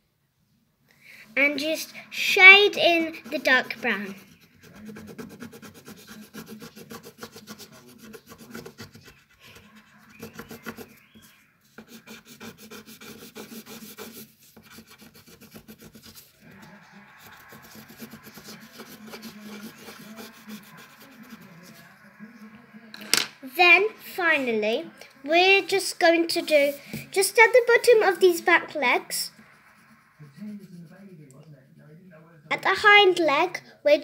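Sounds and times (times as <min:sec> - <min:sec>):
pencil shading on paper: 0:01.4 - 0:22.8, 0:23.6 - 0:31.0.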